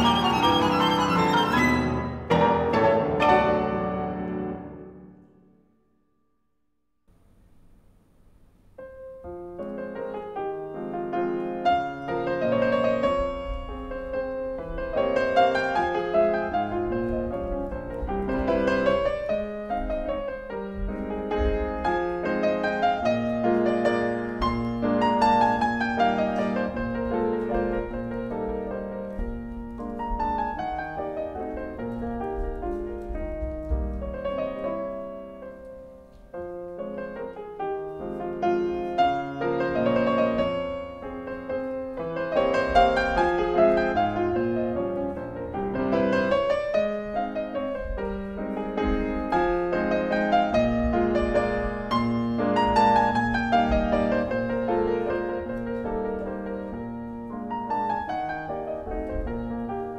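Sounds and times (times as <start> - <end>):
classical piano music: 0.0 - 59.9.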